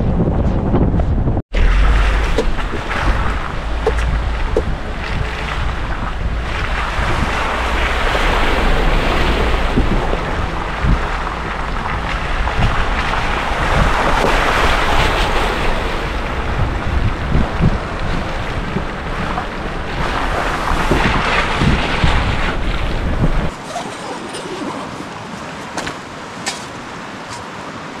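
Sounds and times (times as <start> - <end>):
steady rushing noise: 0.0 - 28.0
wind buffeting microphone: 0.0 - 28.0.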